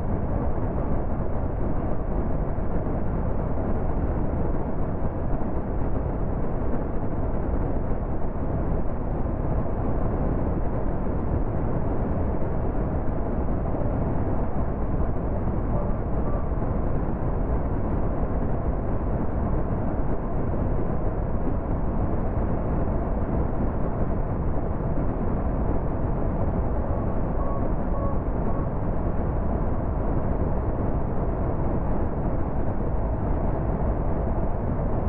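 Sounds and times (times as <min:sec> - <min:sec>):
car tyre and wind rumble: 0:00.0 - 0:35.0.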